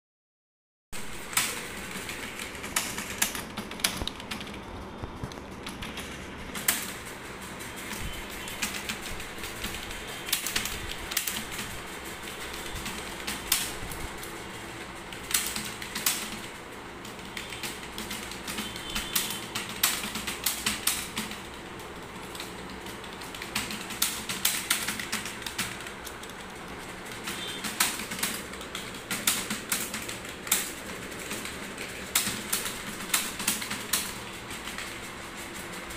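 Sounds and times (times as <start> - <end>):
fast keyboard typing: 1.0 - 35.9.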